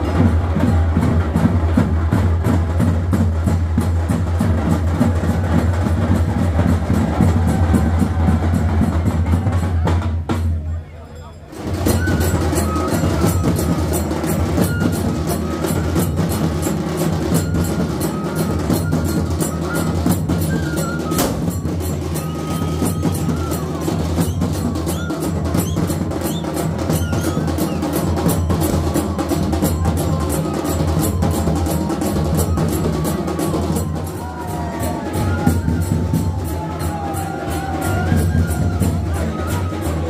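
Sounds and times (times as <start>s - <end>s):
loud fast drumming: 0.0s - 10.6s, 11.5s - 40.0s.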